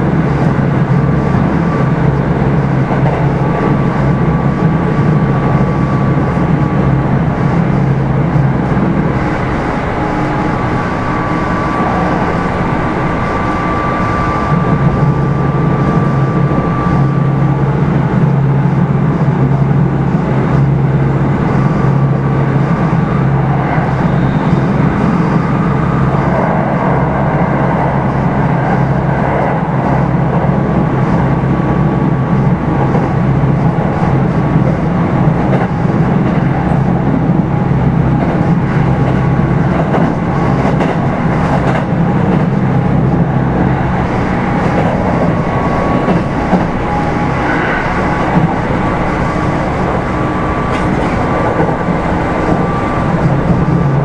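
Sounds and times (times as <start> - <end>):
electric train running noise: 0.0 - 54.0.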